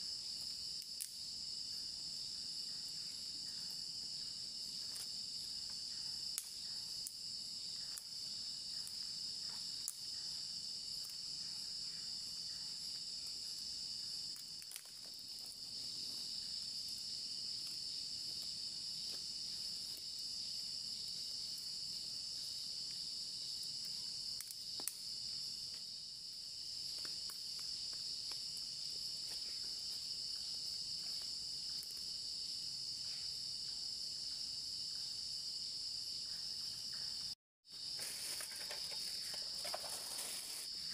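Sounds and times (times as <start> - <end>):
night insects trilling: 0.0 - 40.9.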